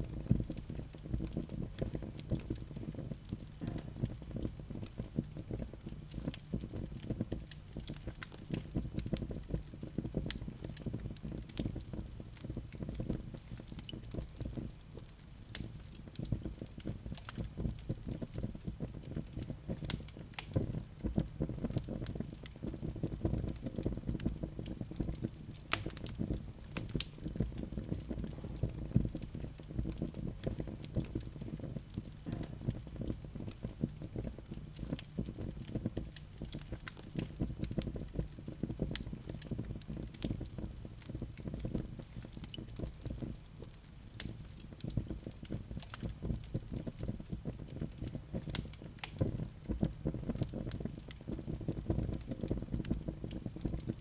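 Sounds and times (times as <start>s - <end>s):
low rush of flames: 0.0s - 54.0s
wood fire crackling: 0.0s - 54.0s.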